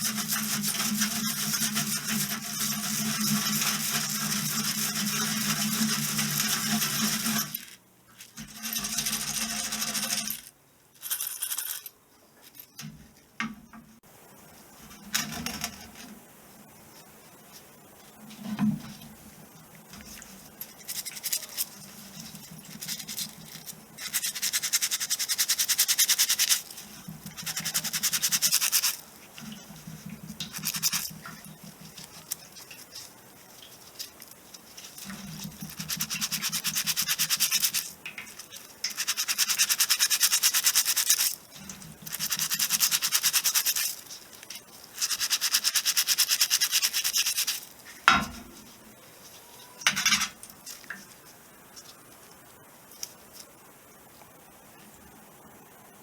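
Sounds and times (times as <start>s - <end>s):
brush scrubbing metal: 0.0s - 10.5s, 16.9s - 52.1s.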